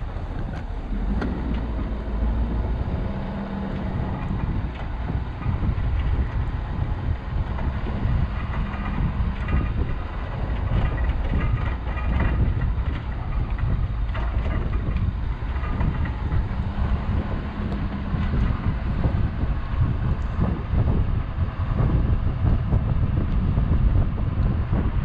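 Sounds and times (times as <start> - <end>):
faint rattles: 0.0 - 21.1
truck engine hum: 0.0 - 25.0.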